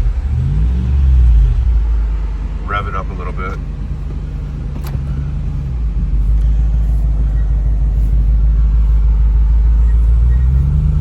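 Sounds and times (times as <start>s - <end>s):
engine exhaust drone: 0.0s - 11.0s.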